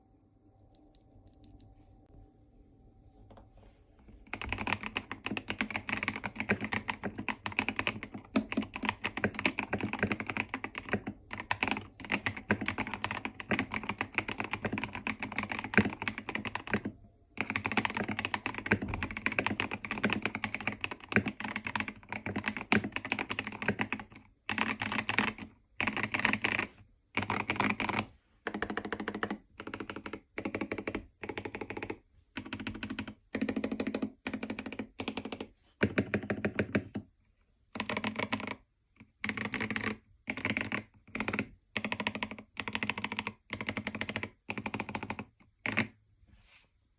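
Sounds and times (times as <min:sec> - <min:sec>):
mechanical keyboard typing: 0:04.2 - 0:37.1, 0:37.7 - 0:46.0.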